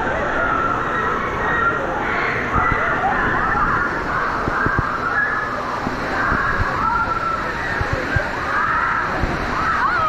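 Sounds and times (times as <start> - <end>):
distant crowd voices and shouts: 0.0 - 10.0
water splashing: 0.0 - 10.0.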